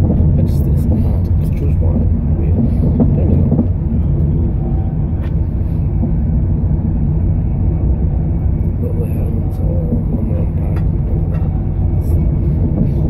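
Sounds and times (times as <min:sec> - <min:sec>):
train carriage rumbling: 0:00.0 - 0:13.0.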